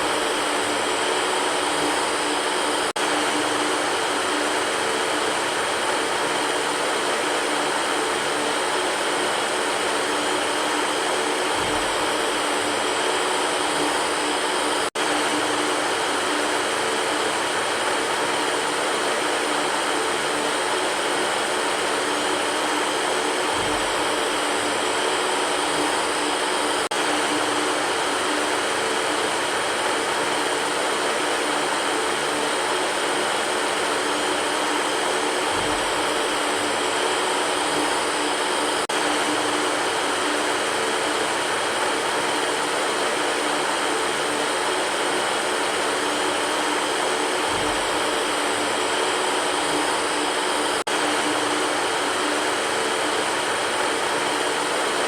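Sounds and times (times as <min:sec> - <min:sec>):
electric fan whirring: 0:00.0 - 0:55.0.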